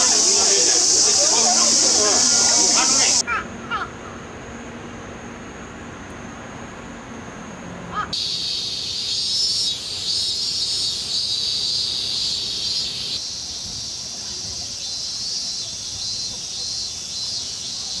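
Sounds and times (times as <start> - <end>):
cicadas screeching: 0.0 - 4.4, 7.9 - 18.0.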